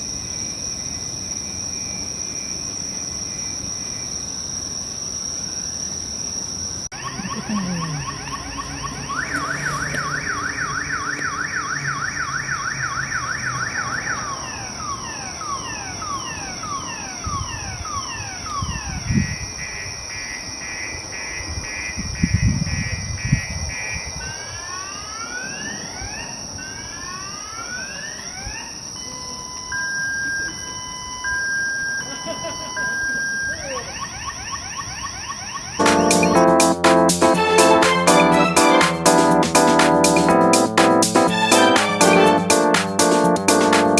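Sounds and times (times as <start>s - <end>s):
car alarm siren: 6.9s - 43.9s.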